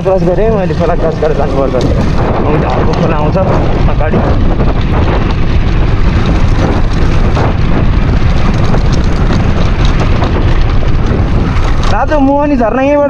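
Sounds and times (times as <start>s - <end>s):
off-road motorcycle running: 0.0s - 13.0s
wind buffeting microphone: 0.0s - 13.0s.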